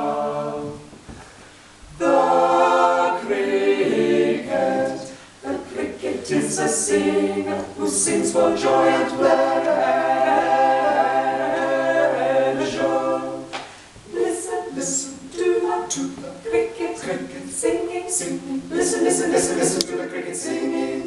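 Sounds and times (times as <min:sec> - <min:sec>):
women singing a cappella: 0:00.0 - 0:01.0, 0:01.9 - 0:21.0.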